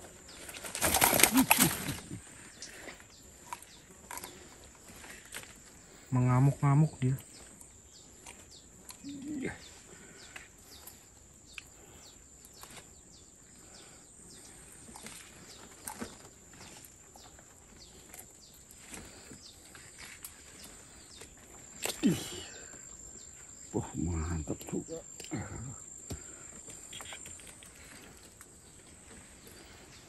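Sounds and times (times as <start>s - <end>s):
high insect drone: 0.0s - 30.0s
leaves and twigs rustling: 0.0s - 30.0s.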